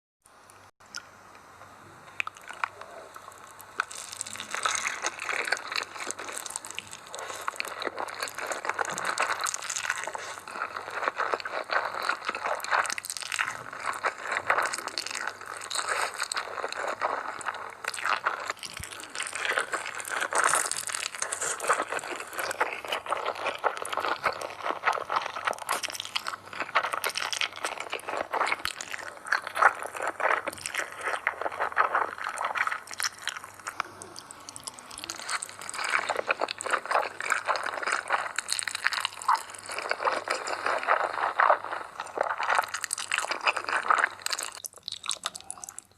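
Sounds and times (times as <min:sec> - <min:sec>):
wet chewing and mouth clicks: 0:02.2 - 0:45.9.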